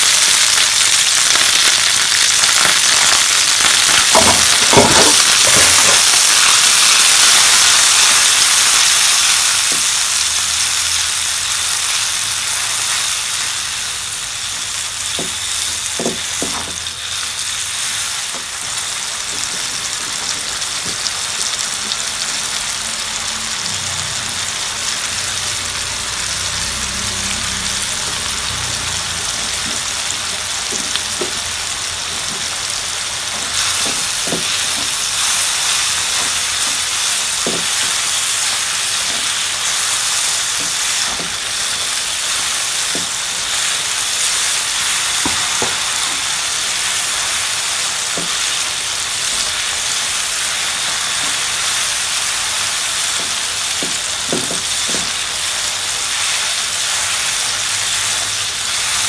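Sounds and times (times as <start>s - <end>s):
paste sizzling in hot oil: 0.0s - 59.0s.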